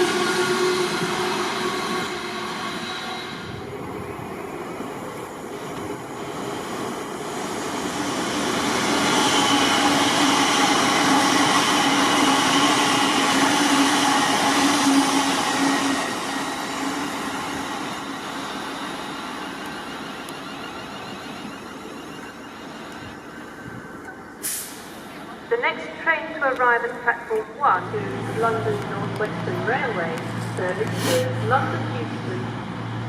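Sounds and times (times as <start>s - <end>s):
train passing with whine: 0.0s - 33.0s.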